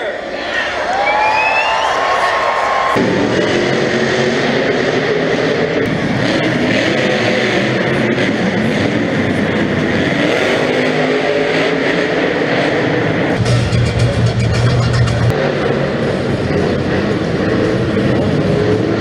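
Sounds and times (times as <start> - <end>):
monster truck engines revving: 0.0 - 19.0.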